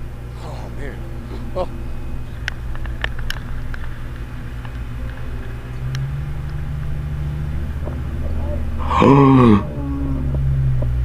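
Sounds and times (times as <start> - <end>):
bike tyres and wind rumble: 0.0 - 11.0
low hum: 0.0 - 11.0.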